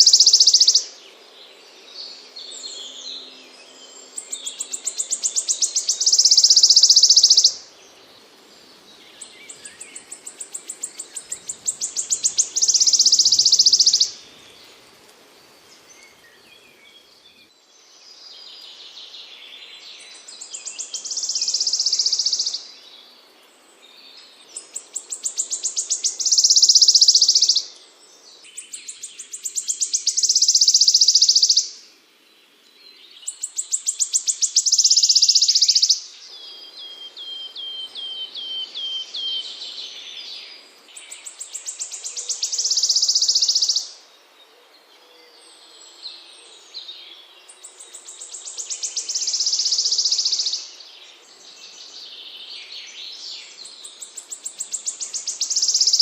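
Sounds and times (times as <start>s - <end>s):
songbird singing buzzy trill: 0.0s - 56.0s.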